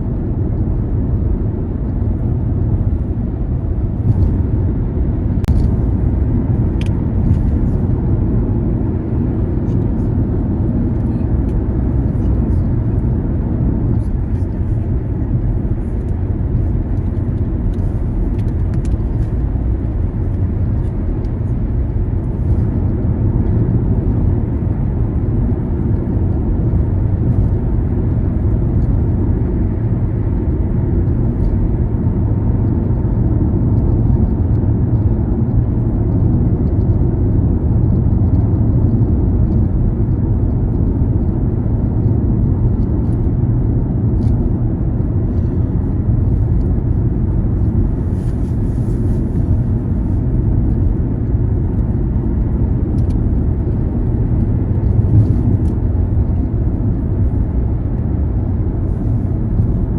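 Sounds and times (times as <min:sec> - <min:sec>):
car engine rumble: 0:00.0 - 0:59.9.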